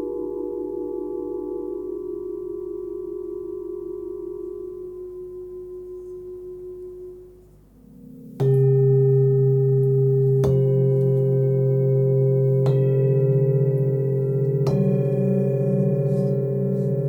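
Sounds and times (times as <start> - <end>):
bowl struck: 0.0 - 17.0
singing bowls ringing: 0.0 - 17.0.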